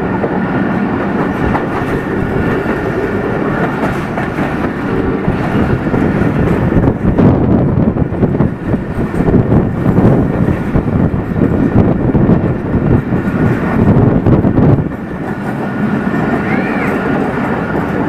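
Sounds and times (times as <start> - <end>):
passenger train rushing past: 0.0 - 18.0
steel wheels clattering on rails: 0.0 - 18.0.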